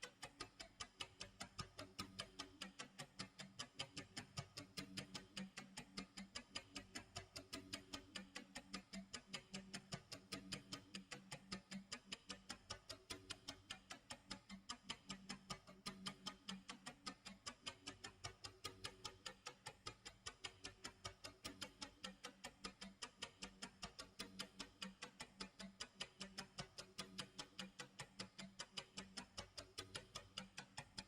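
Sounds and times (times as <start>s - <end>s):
faint clock ticking: 0.0s - 31.0s.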